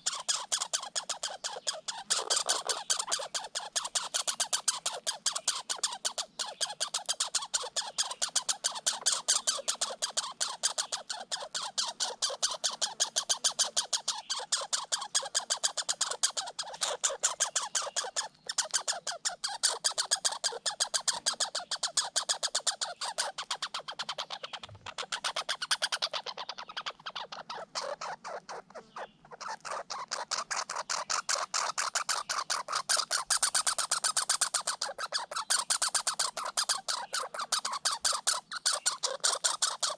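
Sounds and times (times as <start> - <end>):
squirrels chattering: 0.0 - 39.9.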